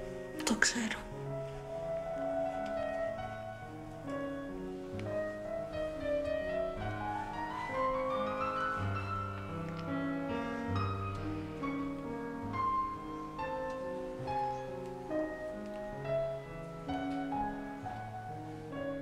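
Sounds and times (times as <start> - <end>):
slow soft piano music: 0.0 - 19.0.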